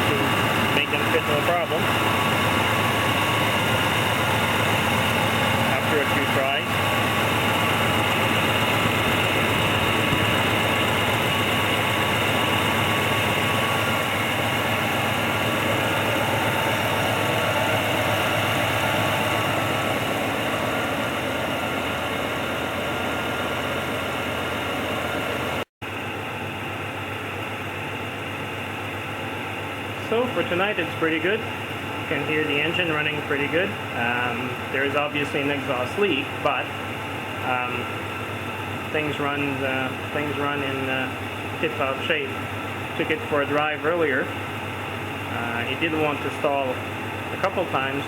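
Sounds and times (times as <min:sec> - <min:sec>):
engine idling roughly: 0:00.0 - 0:48.0
exhaust leak: 0:00.0 - 0:48.0.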